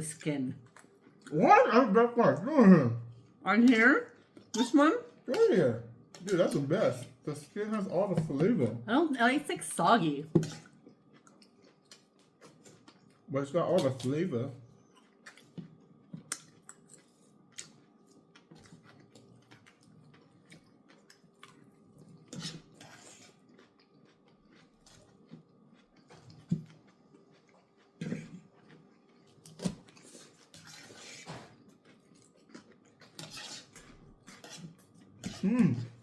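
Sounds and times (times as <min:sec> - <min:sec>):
people chewing and crunching food: 0:00.0 - 0:36.0.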